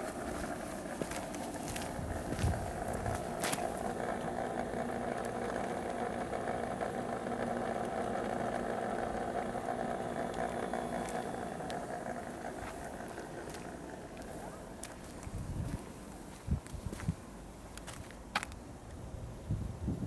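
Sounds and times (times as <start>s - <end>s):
water pump humming: 0.0s - 16.4s.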